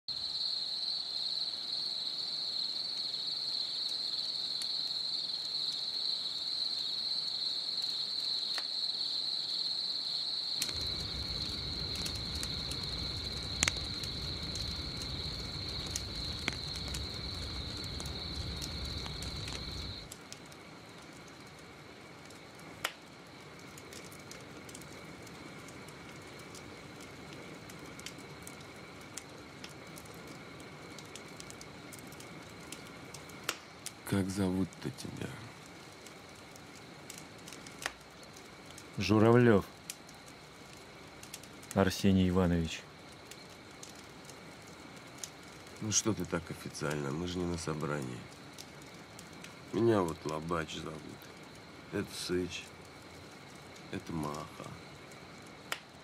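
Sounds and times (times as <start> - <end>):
campfire crackling and popping: 0.1 - 56.0
crickets trilling: 0.1 - 56.0
low insect trill: 0.1 - 56.0.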